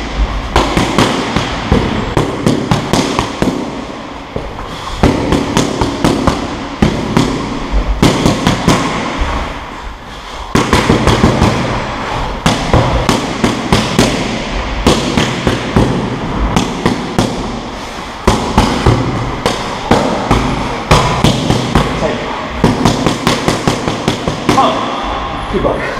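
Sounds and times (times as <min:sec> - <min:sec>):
boxing gloves hitting focus mitts: 0:00.0 - 0:09.5, 0:10.5 - 0:25.0.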